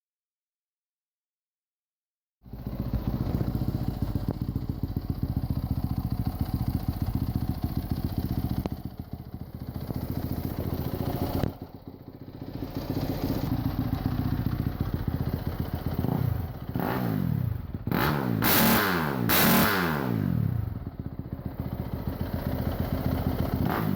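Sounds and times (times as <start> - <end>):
motorcycle engine idling: 2.4 - 23.9.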